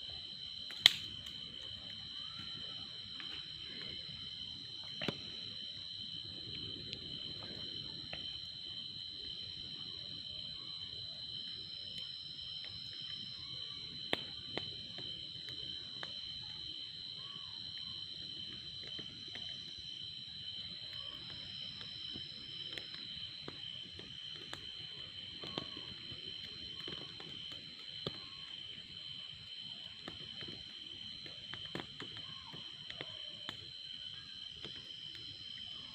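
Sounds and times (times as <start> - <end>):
insect chorus: 0.0 - 35.9.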